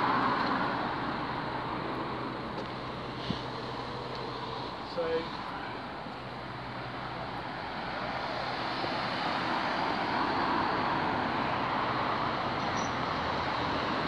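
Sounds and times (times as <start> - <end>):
car passing: 0.0 - 14.0
road traffic noise: 0.0 - 14.0.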